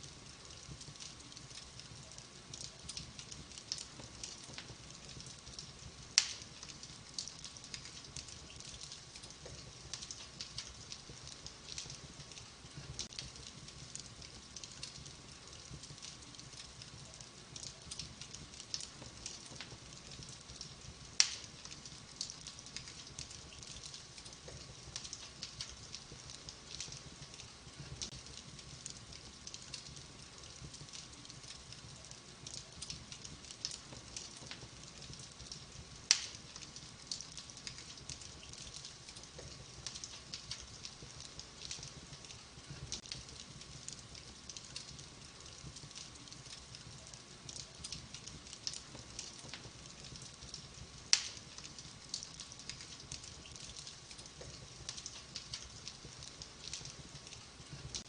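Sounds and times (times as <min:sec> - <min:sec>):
wood fire crackling: 0:00.0 - 0:58.0
loud sharp pops of fire: 0:00.2 - 0:58.0.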